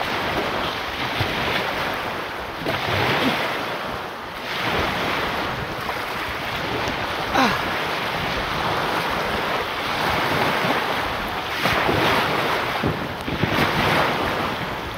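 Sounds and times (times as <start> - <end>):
surf washing on beach: 0.0 - 14.9
wind buffeting microphone: 0.0 - 14.9.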